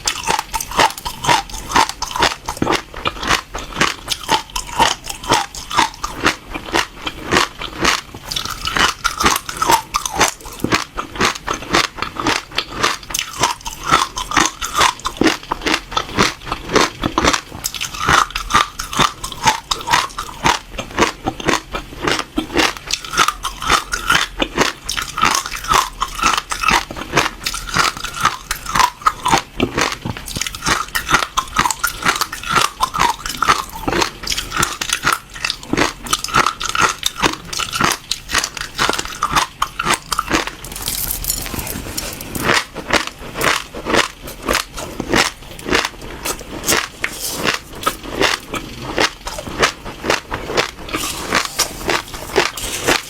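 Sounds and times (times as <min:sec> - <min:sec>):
seeds crunching between teeth: 0:00.0 - 0:53.0.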